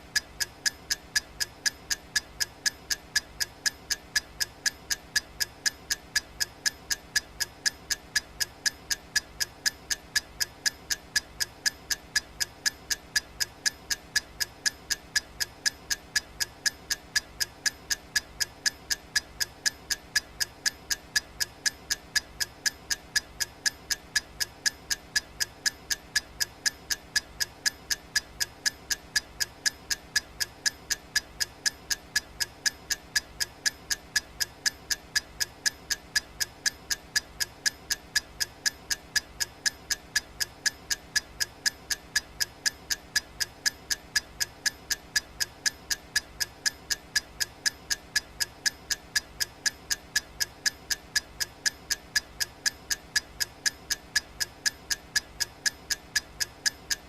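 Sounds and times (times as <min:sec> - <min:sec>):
countdown timer ticking: 0:00.0 - 0:57.0.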